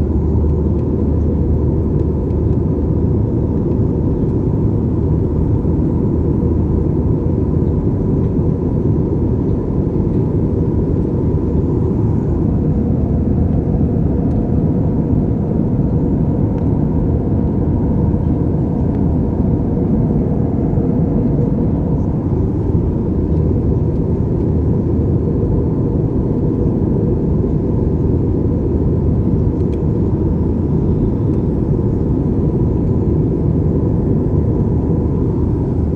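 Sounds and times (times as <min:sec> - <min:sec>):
low rumble of jet engines: 0:00.0 - 0:35.9.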